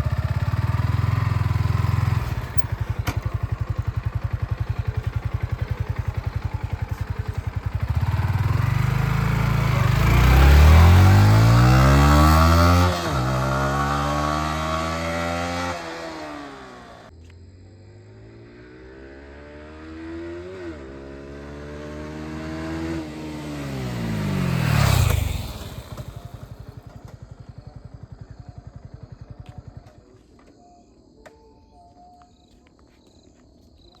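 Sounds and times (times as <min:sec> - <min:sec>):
motorcycle accelerating past: 0:00.0 - 0:17.1, 0:17.8 - 0:29.8.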